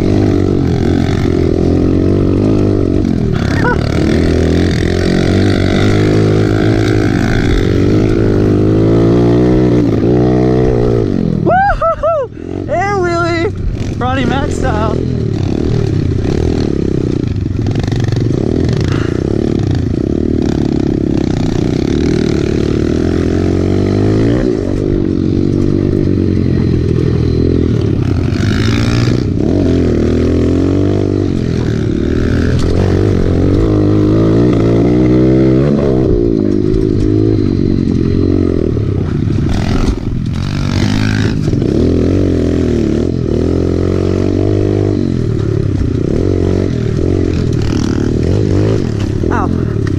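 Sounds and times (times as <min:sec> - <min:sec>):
dirt bike engine revving: 0:00.0 - 0:11.7, 0:12.3 - 0:49.9.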